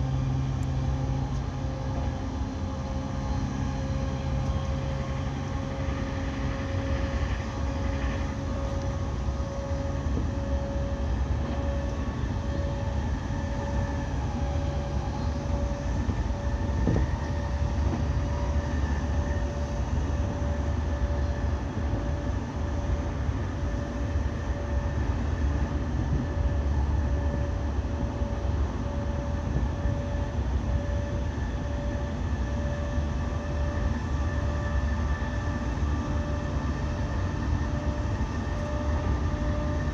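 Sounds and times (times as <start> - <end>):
thin steady whine: 0.0 - 39.9
train wheels rumbling on rails: 0.0 - 39.9.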